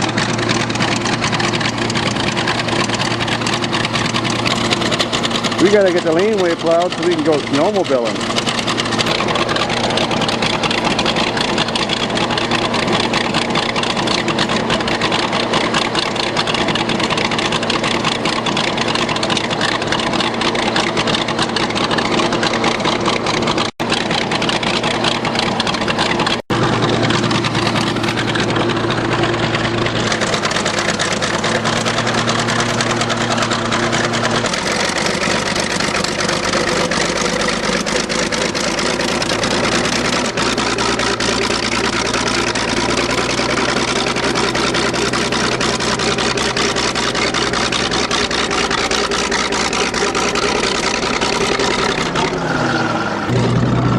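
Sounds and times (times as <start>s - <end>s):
diesel bulldozer engine running: 0.0s - 53.9s.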